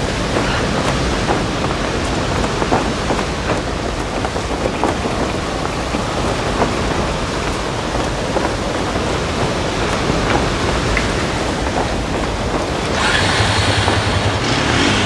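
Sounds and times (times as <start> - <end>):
heavy rain: 0.0 - 15.0
raindrop ticks: 0.0 - 15.0
wind rumbling: 0.0 - 15.0.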